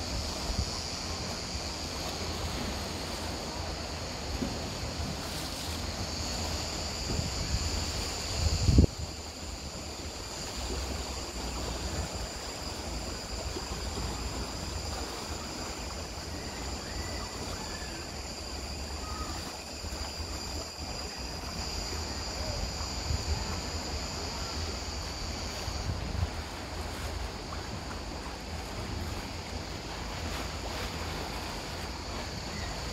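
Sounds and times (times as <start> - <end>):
high-pitched hiss: 0.0 - 32.9
wind rumbling on microphone: 0.0 - 32.9.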